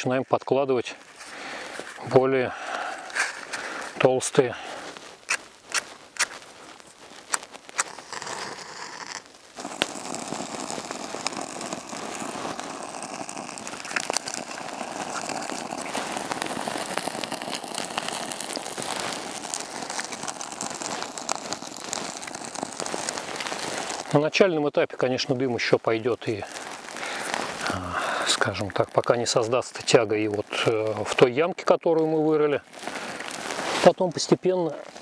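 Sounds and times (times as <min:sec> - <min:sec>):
kindling fire crackling: 0:00.0 - 0:35.0.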